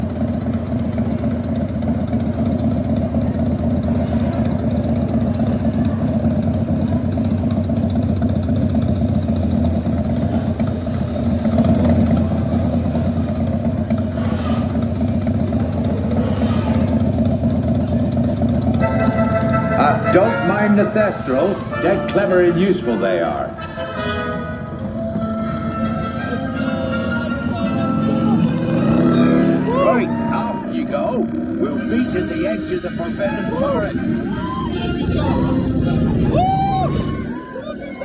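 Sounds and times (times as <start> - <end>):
low engine-like rumble: 0.0 - 38.0.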